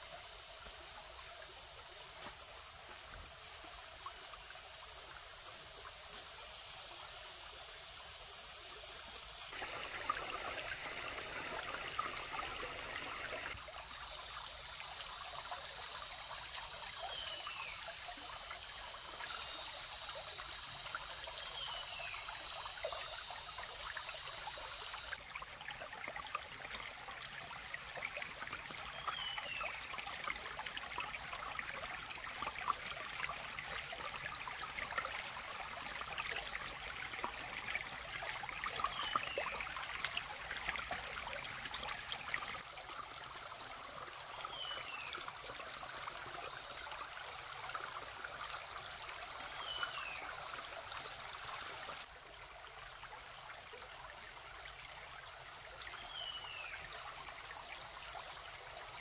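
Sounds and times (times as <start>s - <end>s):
stream water splashing over stones: 8.5s - 59.0s.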